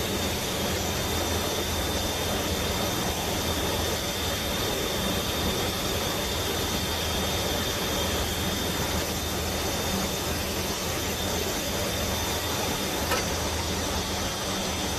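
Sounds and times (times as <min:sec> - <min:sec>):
turboprop engines droning: 0:00.0 - 0:14.9.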